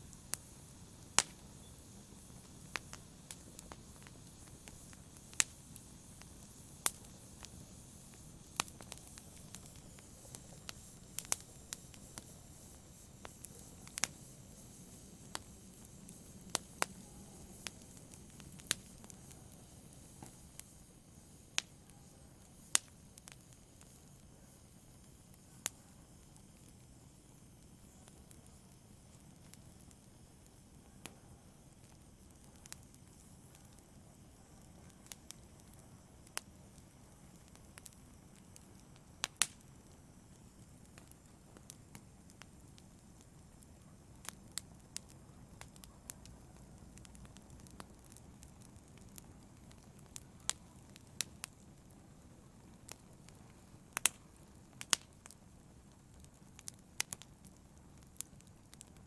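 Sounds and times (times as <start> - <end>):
fire crackling and popping: 0.0 - 59.0
fire hissing: 0.0 - 59.0.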